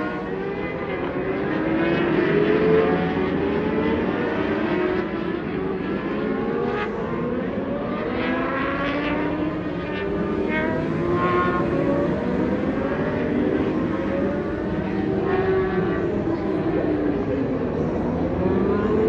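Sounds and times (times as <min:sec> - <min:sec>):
superbike engines racing: 0:00.0 - 0:19.0.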